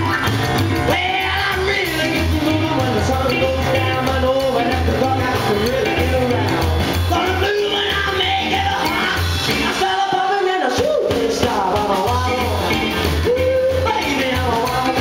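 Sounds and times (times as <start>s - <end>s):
bass line: 0.0s - 15.0s
drums: 0.0s - 15.0s
man singing: 0.0s - 15.0s
stage piano: 0.0s - 15.0s.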